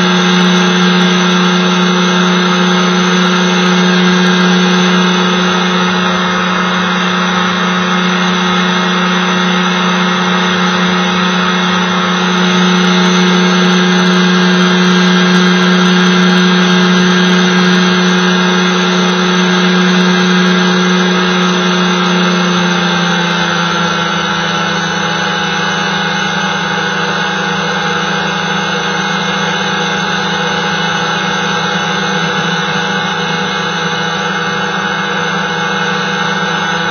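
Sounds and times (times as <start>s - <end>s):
small aircraft engine humming: 0.0s - 36.9s.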